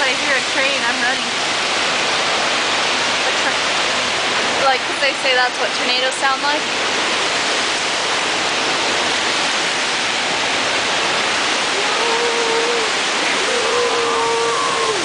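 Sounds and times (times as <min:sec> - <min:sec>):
storm wind and heavy rain: 0:00.0 - 0:15.0.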